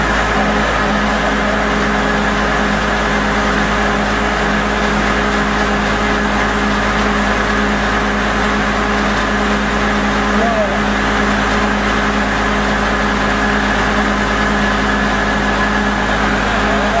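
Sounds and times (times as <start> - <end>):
drilling rig engine hum: 0.0 - 17.0.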